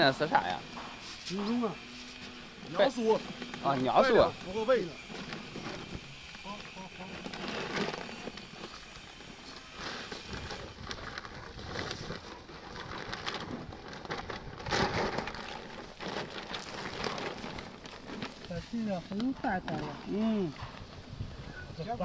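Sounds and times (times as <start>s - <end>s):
pellets pouring into a hopper: 0.0s - 20.5s
plastic sack rustling: 0.0s - 22.0s.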